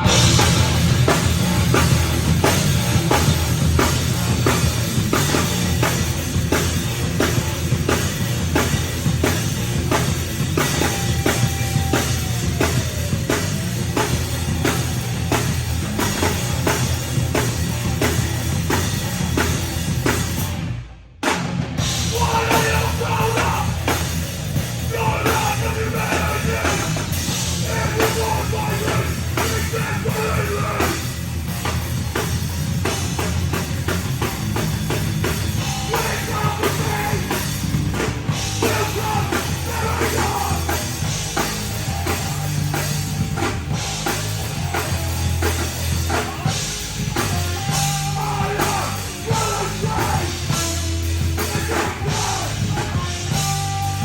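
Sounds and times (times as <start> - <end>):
busy drum kit: 0.0 - 54.0
live heavy rock band: 0.0 - 54.0.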